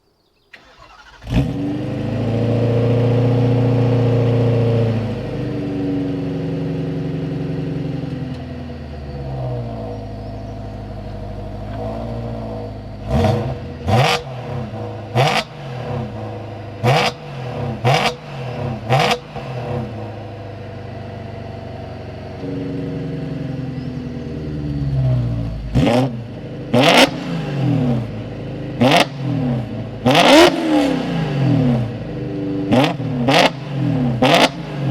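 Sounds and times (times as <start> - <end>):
car engine starting up: 0.4 - 34.9
engine revving in sharp blips: 0.5 - 34.9
car engine idling: 0.6 - 34.6.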